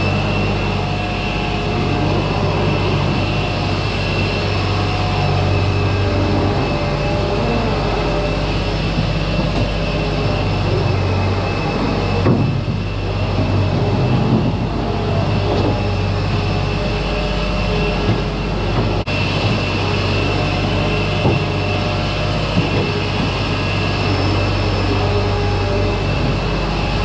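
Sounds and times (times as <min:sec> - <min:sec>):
diesel engine running: 0:00.0 - 0:27.0
high whine: 0:00.0 - 0:27.0.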